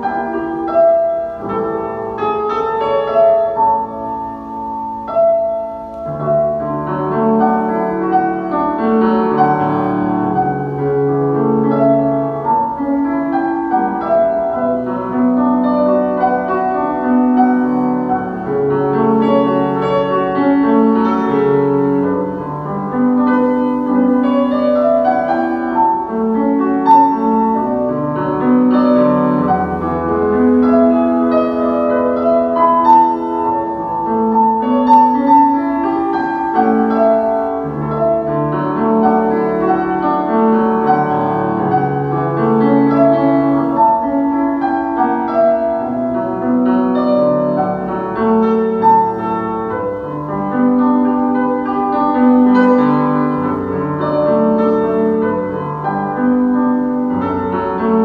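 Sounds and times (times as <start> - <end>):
slow classical piano music: 0.0 - 58.0.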